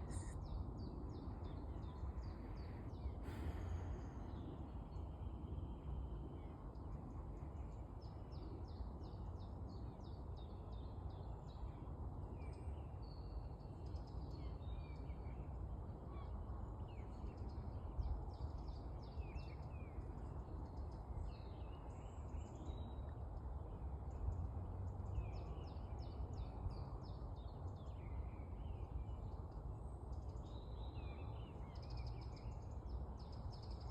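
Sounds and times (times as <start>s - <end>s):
low background rumble: 0.0s - 33.9s.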